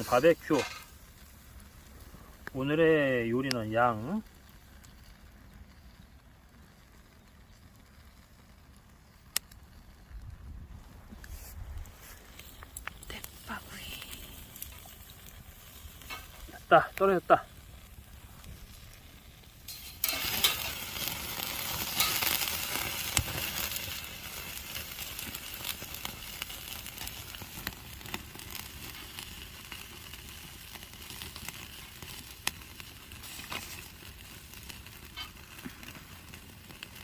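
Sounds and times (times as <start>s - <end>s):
food sizzling on a grill: 0.0s - 10.3s, 11.0s - 37.0s
fire popping: 0.0s - 37.0s.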